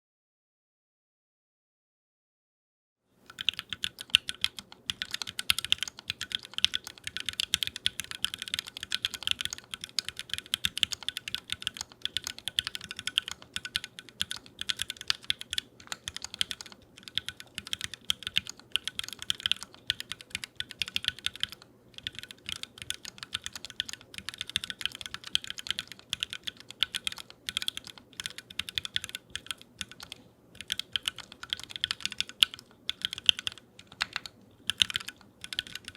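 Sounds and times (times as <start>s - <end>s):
mechanical keyboard typing: 3.3s - 35.9s.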